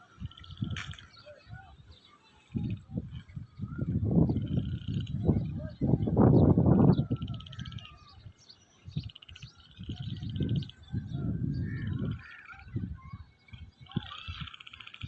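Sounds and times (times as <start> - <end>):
birds chirping and trilling: 0.0 - 15.0
wind gusting across microphone: 0.0 - 15.0.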